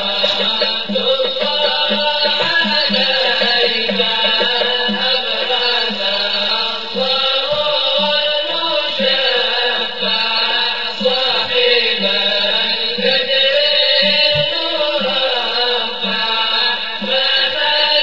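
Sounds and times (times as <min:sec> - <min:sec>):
low beat: 0:00.0 - 0:17.6
layered voices chanting: 0:00.0 - 0:18.0.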